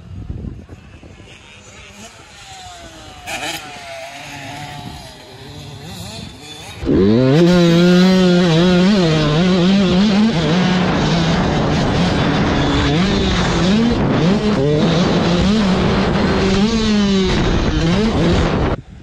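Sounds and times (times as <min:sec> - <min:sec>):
dirt bike engine revving: 0:00.4 - 0:18.9.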